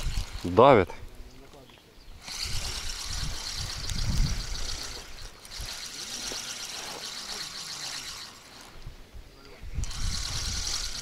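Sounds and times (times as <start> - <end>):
fishing reel whirring: 0.0 - 0.9, 2.2 - 9.1, 9.8 - 11.0.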